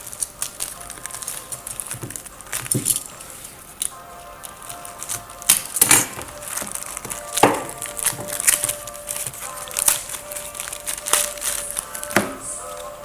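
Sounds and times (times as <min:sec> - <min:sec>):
cards sliding out: 0:00.0 - 0:12.9
plastic wrapper crinkling: 0:00.0 - 0:13.0.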